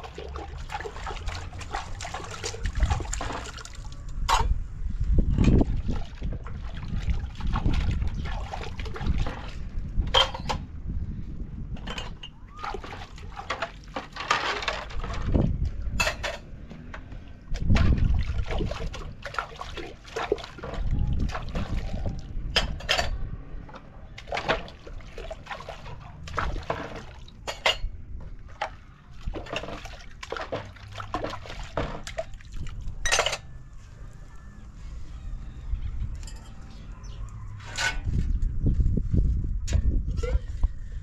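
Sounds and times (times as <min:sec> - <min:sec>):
water sloshing and trickling: 0:00.0 - 0:41.0.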